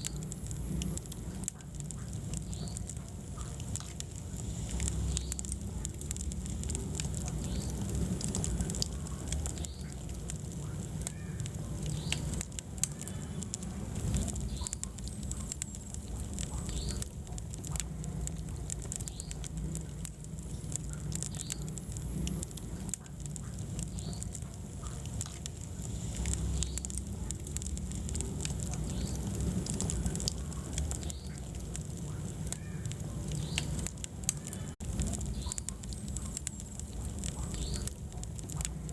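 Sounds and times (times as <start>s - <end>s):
low rumble of flame: 0.0s - 38.9s
wood fire crackling and popping: 0.0s - 38.9s.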